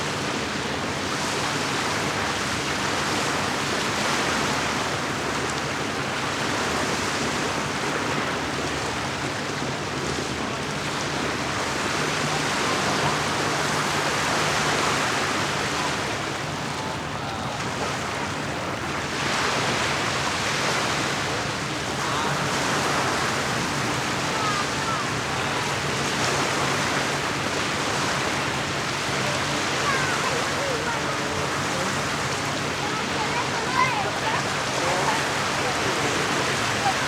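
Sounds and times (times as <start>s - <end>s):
lake water lapping at shore: 0.0s - 37.0s.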